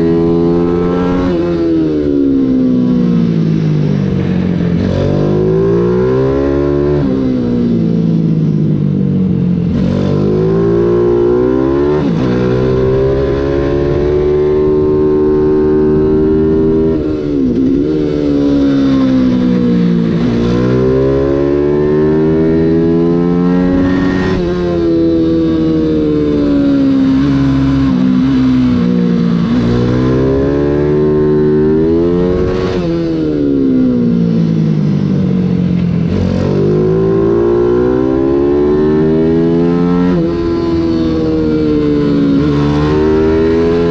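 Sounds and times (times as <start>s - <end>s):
motorbike engine revving: 0.0s - 8.7s, 9.4s - 43.9s.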